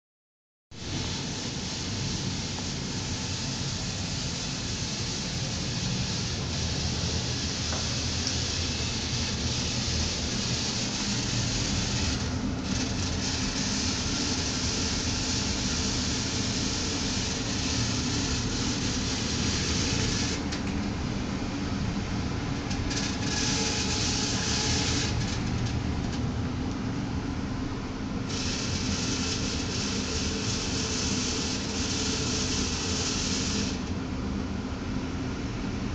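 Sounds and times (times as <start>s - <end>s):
furnace blower humming: 0.8s - 35.9s.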